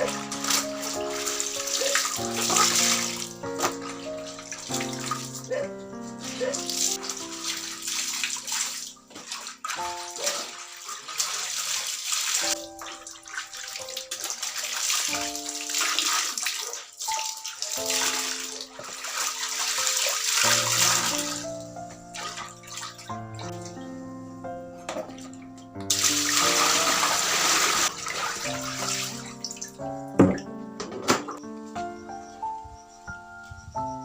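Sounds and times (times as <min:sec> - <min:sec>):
water pouring and splashing: 0:00.0 - 0:23.9, 0:24.9 - 0:31.4
melodic background music: 0:00.0 - 0:34.0.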